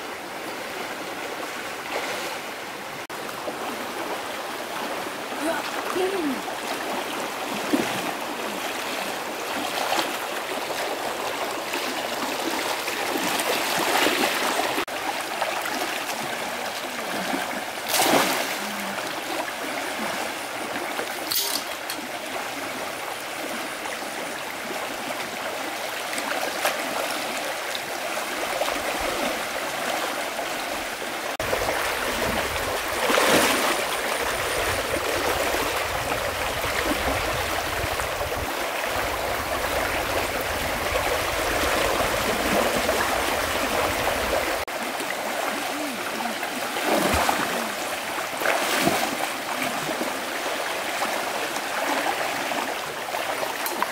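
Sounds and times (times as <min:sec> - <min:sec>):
stream water running: 0:00.0 - 0:53.9.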